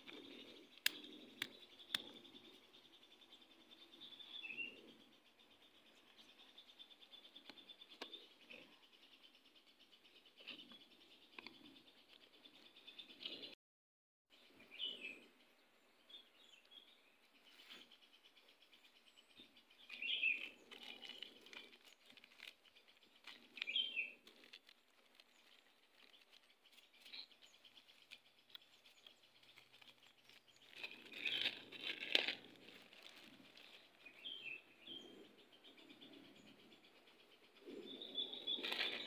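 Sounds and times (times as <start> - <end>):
birds chirping: 0.0 - 13.6, 14.3 - 39.0.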